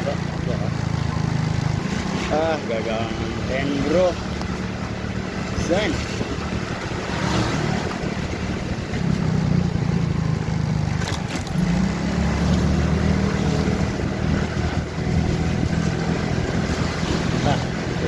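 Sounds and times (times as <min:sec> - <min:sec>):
motorcycle engine running: 0:00.0 - 0:07.1, 0:07.8 - 0:18.0
road and wind noise: 0:00.0 - 0:18.0.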